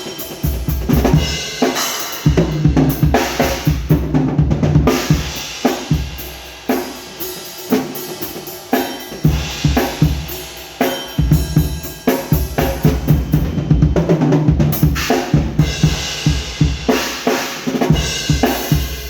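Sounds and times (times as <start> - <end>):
cymbals ringing: 0.0 - 3.8, 5.2 - 16.6.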